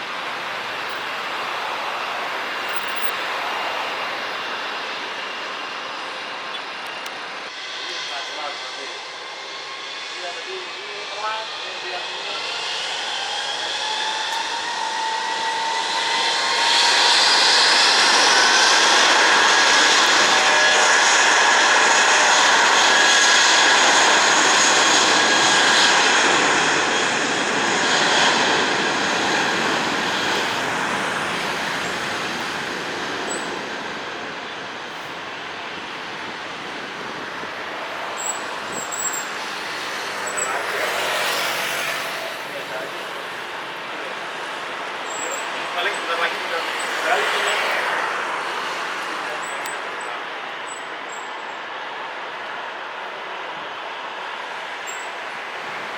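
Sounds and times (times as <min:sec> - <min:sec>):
jet engines whining and roaring: 0:00.0 - 0:55.9.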